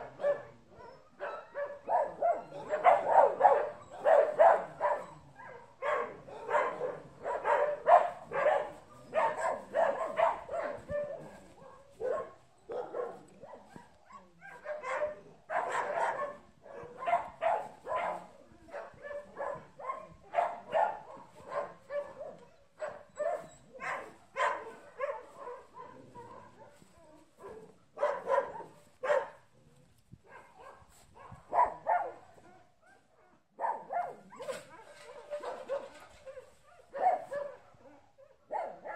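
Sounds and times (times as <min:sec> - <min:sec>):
dog barking: 0:00.0 - 0:29.5, 0:30.2 - 0:38.9.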